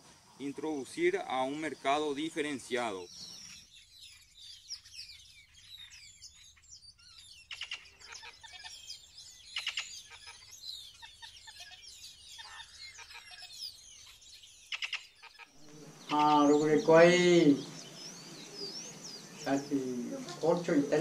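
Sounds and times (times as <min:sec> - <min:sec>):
birds chirping and whistling: 0:00.6 - 0:21.0.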